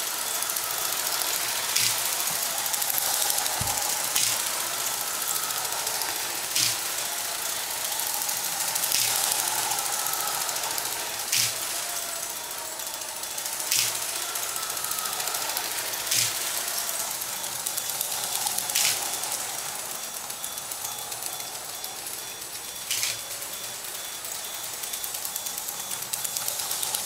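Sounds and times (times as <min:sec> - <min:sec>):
sharp track click: 0:00.0 - 0:27.0
toy train motor whir: 0:00.0 - 0:27.0.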